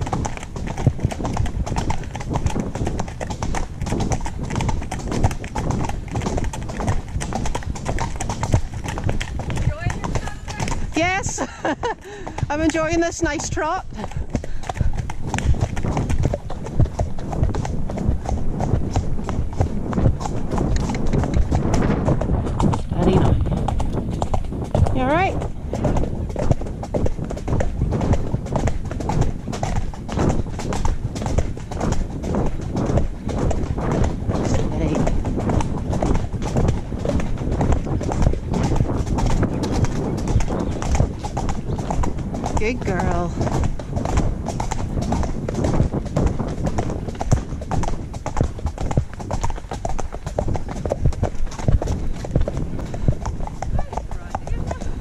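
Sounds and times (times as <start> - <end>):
horse hoofbeats trotting: 0.0 - 55.0
low rumble of movement: 0.0 - 55.0.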